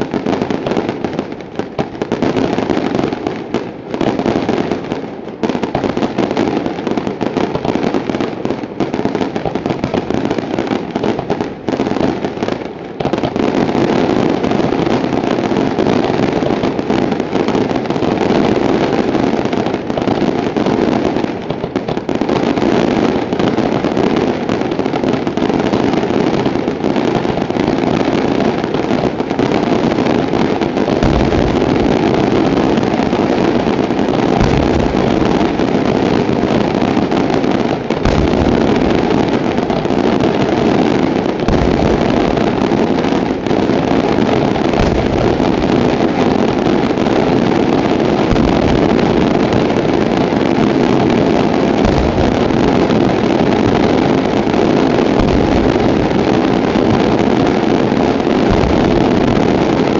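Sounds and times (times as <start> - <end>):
fireworks rapid-fire reports: 0.0 - 59.9.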